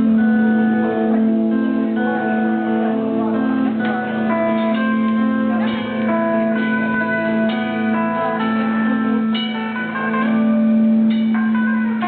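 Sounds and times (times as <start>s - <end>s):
guitar melody: 0.0s - 12.0s.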